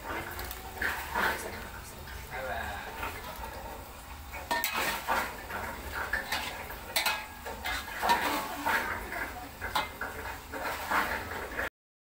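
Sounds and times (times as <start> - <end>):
metal spatula scraping a wok: 0.0 - 2.2, 2.9 - 11.7.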